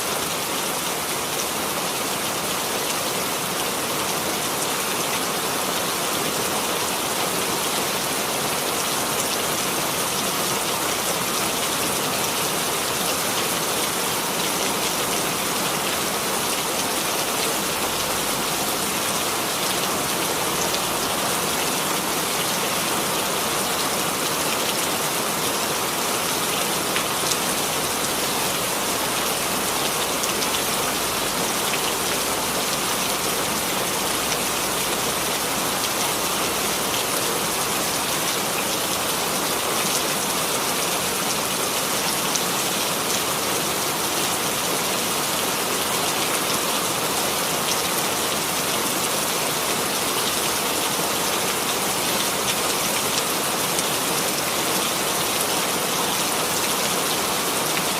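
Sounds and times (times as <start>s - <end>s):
rain pattering: 6.8s - 57.9s.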